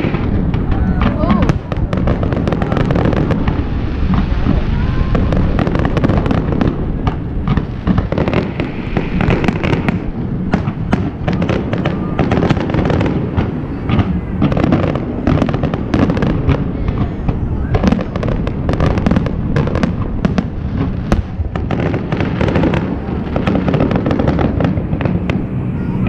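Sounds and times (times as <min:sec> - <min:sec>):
fireworks bangs and crackling: 0:00.0 - 0:26.0
low rumble: 0:00.0 - 0:26.0.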